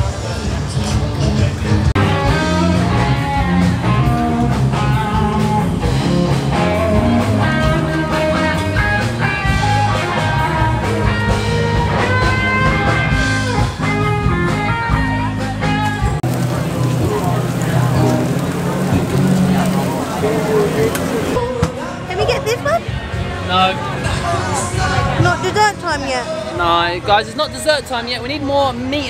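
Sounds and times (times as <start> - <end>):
steady bass line: 0.0 - 26.4
rock blues guitar tune: 0.0 - 26.6.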